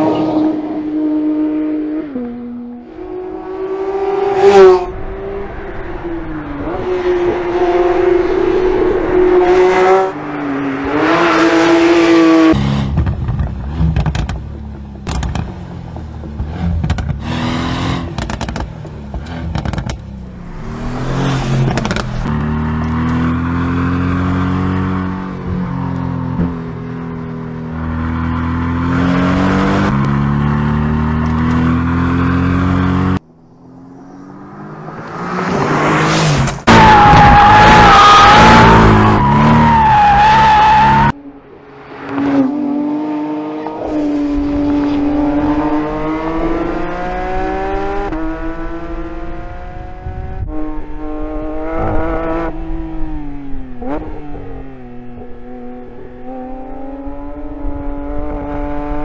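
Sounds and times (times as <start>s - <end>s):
sports car engines revving: 6.4s - 59.0s.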